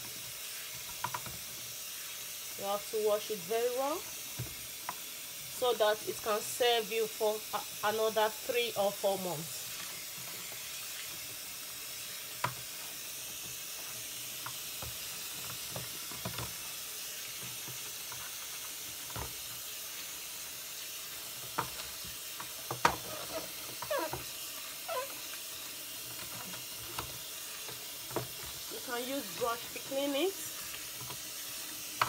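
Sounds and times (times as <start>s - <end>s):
tap water running into sink: 0.0s - 32.0s.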